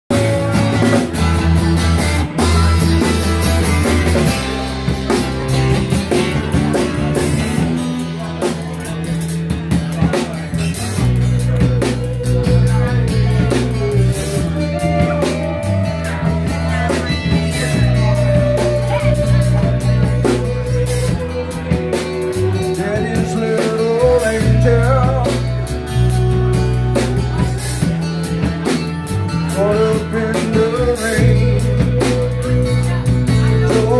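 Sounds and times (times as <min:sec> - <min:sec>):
blues-rock band playing: 0:00.1 - 0:33.9
wavering electric guitar lead: 0:00.1 - 0:33.9.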